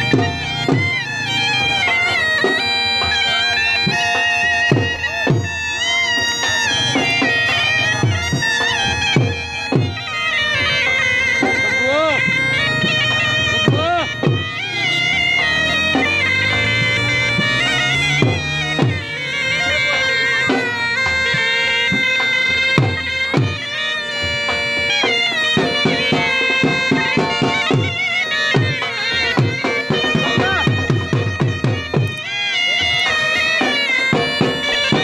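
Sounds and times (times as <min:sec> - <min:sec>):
bagpipe melody with drone: 0:00.0 - 0:35.0
drum beats: 0:00.0 - 0:35.0.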